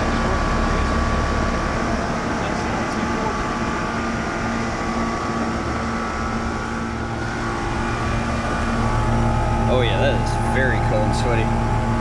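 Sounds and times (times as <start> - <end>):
compressor hum: 0.0 - 12.0
fan rush of air: 0.0 - 12.0.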